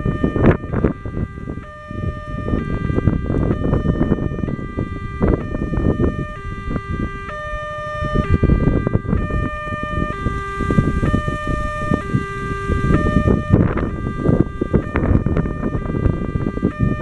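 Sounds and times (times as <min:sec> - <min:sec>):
level crossing alarm: 0:00.0 - 0:17.0
low rumbling noise: 0:00.0 - 0:17.0.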